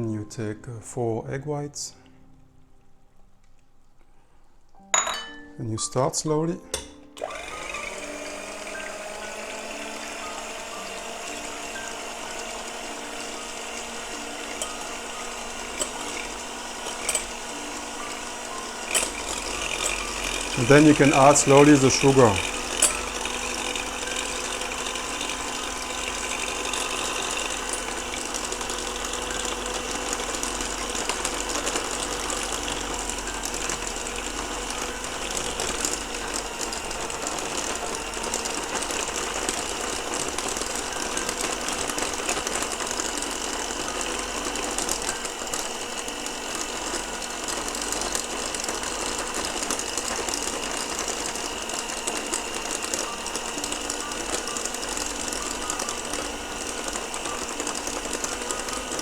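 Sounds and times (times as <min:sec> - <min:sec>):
electric mixer whirring: 0:06.7 - 0:59.0.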